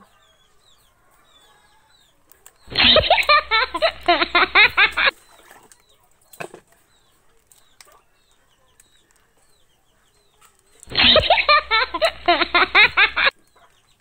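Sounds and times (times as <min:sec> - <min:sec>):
chicken clucking: 0:00.0 - 0:14.0.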